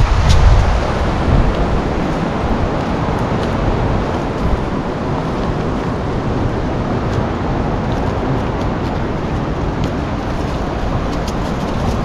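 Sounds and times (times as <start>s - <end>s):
wind rushing through trees: 0.0s - 12.0s.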